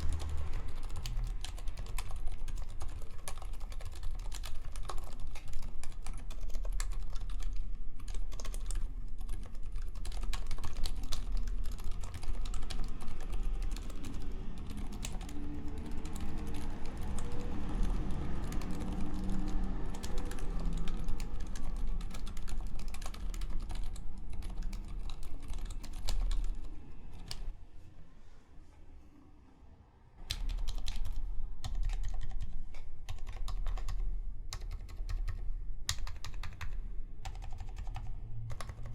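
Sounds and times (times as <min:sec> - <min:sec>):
dampened keyboard typing: 0:00.0 - 0:27.5, 0:30.3 - 0:38.9.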